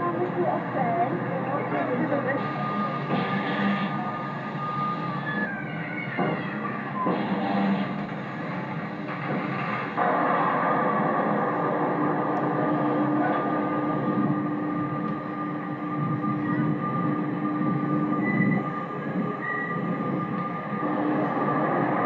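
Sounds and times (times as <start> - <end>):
fairground ride machinery rumble: 0.0 - 22.0.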